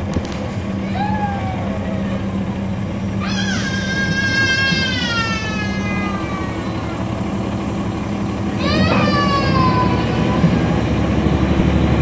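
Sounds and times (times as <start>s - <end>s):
bus diesel engine droning: 0.0s - 12.0s
high drivetrain whine: 0.0s - 12.0s.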